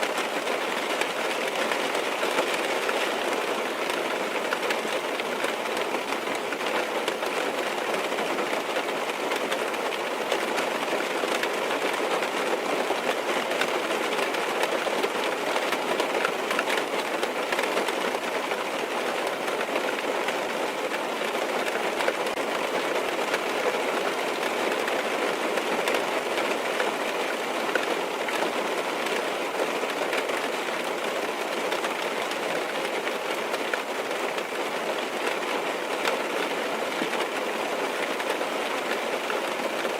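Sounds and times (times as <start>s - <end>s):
rain on car roof and windows: 0.0s - 39.9s.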